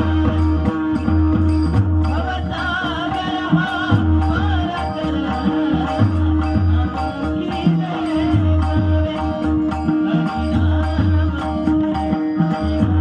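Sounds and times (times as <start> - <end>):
hand drum beating: 0.0 - 13.0.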